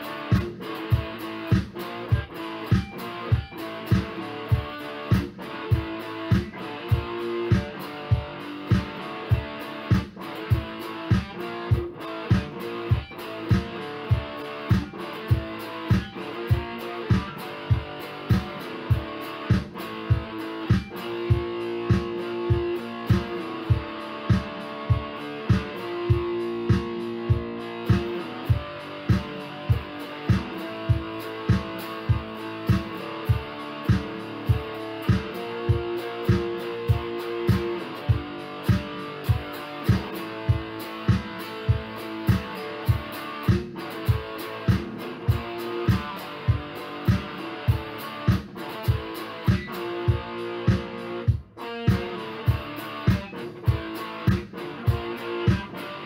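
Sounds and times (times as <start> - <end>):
guitar music over a steady beat: 0.0 - 56.0.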